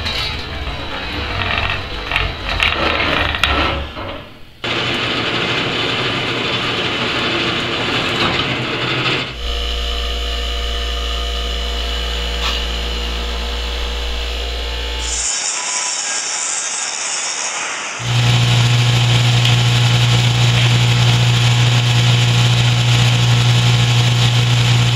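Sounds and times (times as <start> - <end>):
hydraulic power unit humming: 0.4 - 15.6, 18.0 - 24.9
power tool running roughly: 4.6 - 24.9.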